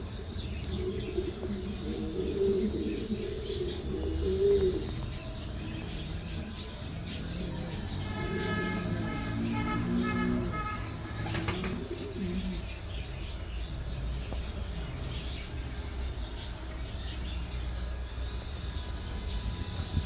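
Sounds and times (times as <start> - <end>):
pigeons cooing: 0.0 - 19.9
small cage birds chirping: 0.0 - 20.0.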